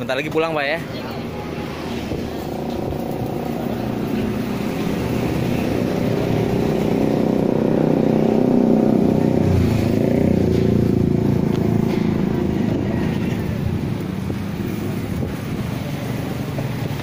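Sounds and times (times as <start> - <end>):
road traffic engine noise: 0.0 - 17.0.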